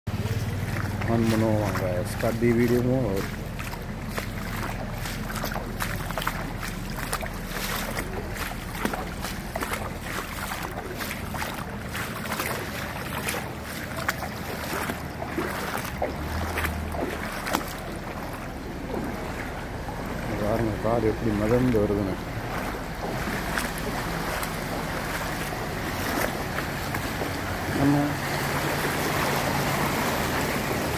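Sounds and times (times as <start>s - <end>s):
rainwater rushing across road: 0.1s - 30.9s
small splashes: 0.1s - 30.9s.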